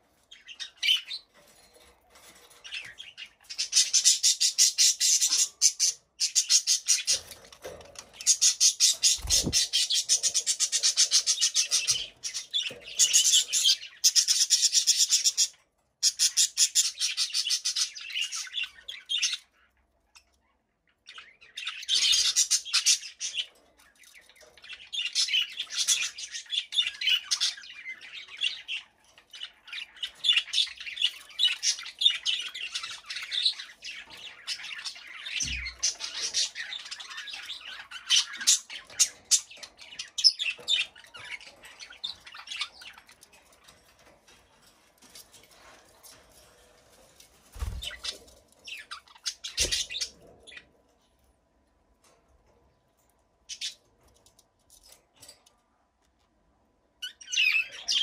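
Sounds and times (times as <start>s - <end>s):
budgerigars chirping and warbling: 0.1s - 50.8s, 53.5s - 55.4s, 57.0s - 58.0s.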